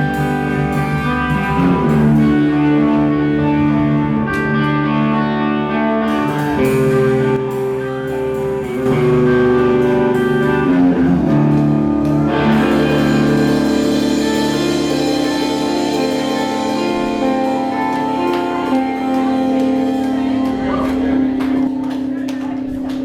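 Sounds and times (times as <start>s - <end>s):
band music with guitar: 0.0s - 23.0s.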